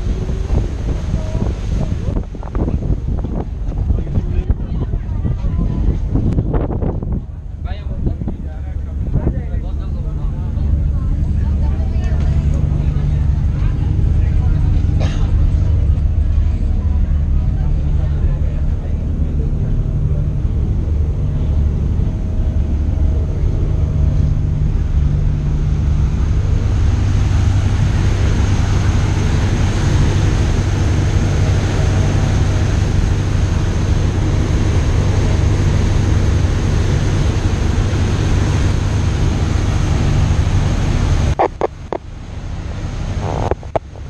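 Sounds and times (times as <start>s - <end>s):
boat engine hum: 0.0s - 44.0s
rushing water: 0.0s - 44.0s
wind on microphone: 0.0s - 44.0s.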